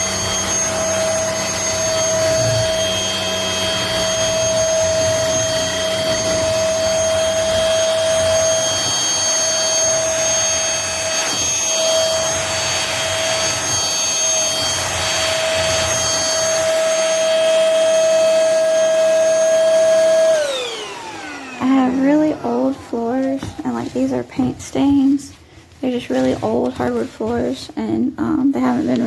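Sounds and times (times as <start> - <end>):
stick vacuum whining: 0.0 - 29.0.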